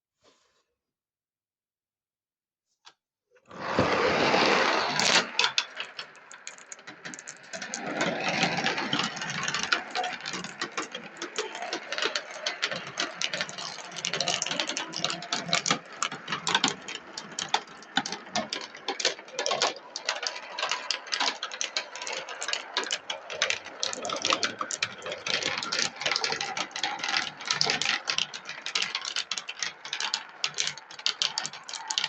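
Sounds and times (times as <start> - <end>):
marbles rolling on track: 3.5 - 32.0
marbles clicking: 3.8 - 32.0.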